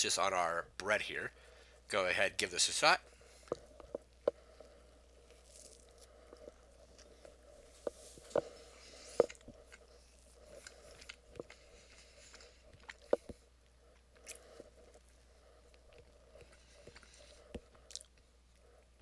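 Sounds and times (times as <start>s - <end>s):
quiet chewing sounds: 3.0s - 19.0s.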